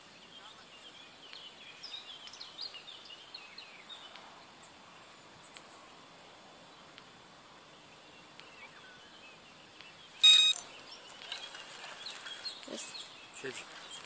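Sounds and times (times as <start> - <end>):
small bird singing: 0.0 - 7.0, 7.6 - 14.0
faint outdoor hiss: 0.0 - 14.0.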